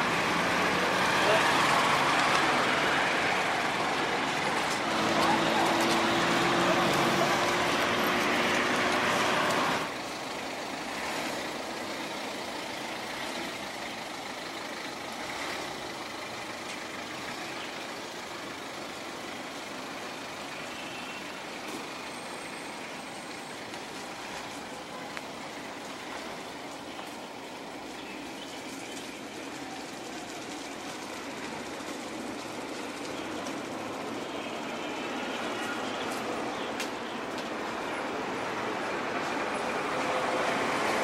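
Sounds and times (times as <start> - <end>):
loud vehicle engine: 0.0 - 41.0
traffic noise: 0.0 - 41.0.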